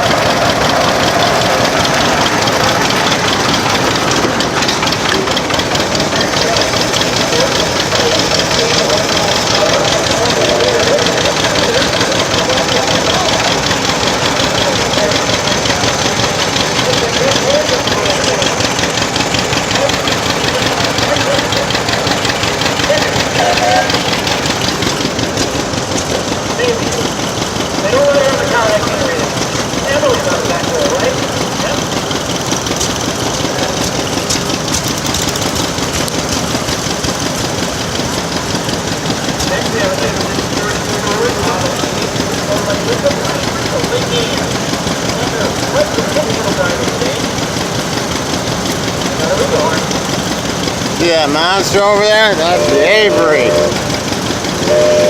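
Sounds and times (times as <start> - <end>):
tractor engine knocking: 0.0 - 55.0.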